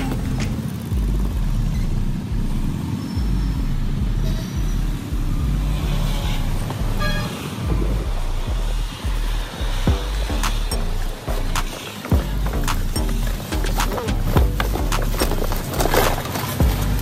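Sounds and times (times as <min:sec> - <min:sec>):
cars and scooters passing: 0:00.0 - 0:17.0
pulsing low rumble: 0:00.0 - 0:17.0.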